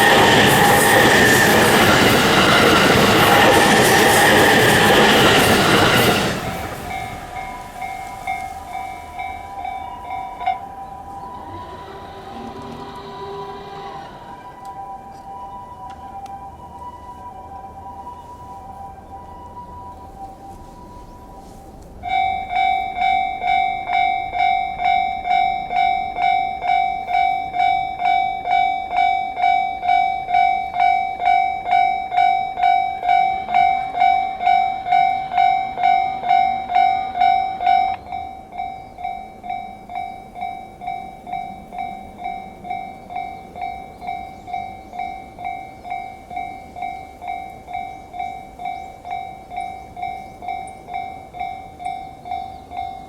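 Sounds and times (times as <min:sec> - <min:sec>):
level crossing bell dinging: 0:06.9 - 0:16.6, 0:19.4 - 0:53.0.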